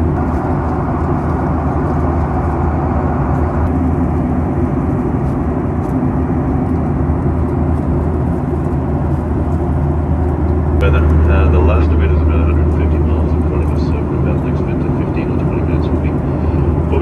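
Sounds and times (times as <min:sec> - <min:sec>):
airplane cabin engine drone: 0:00.0 - 0:17.0.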